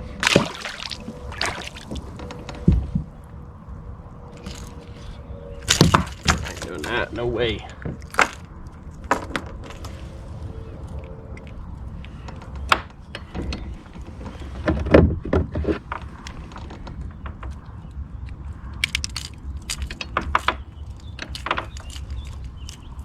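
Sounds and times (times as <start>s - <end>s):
fishing gear clicking and knocking: 0.0s - 23.0s
steady low rumble: 0.0s - 23.0s.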